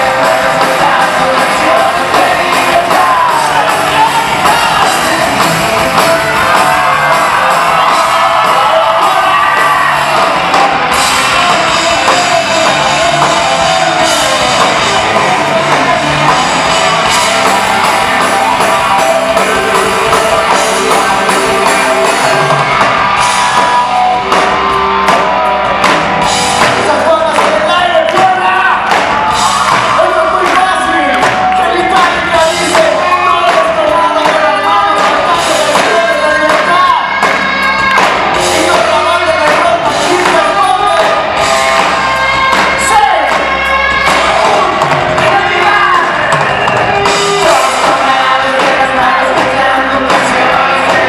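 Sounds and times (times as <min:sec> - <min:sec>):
person singing: 0:00.0 - 0:25.0, 0:26.6 - 0:51.0
drums: 0:00.0 - 0:51.0
electric guitars: 0:00.0 - 0:51.0
rock band playing live: 0:00.0 - 0:51.0.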